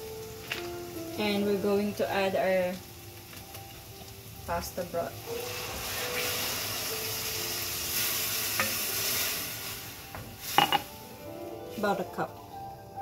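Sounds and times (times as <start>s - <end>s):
water sizzling in hot pan: 0.0s - 13.0s.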